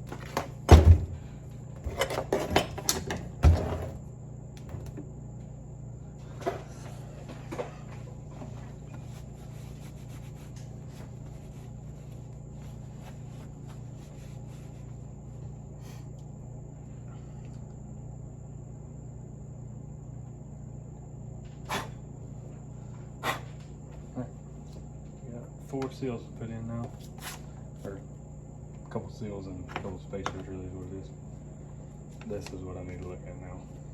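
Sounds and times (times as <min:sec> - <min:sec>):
low background hum: 0:00.0 - 0:33.9.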